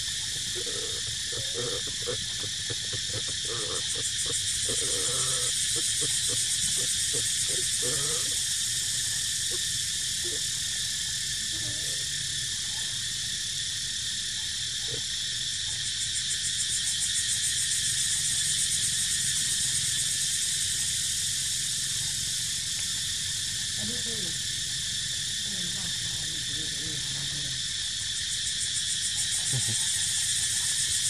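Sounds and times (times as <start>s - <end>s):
forest insect chorus droning: 0.0s - 31.0s.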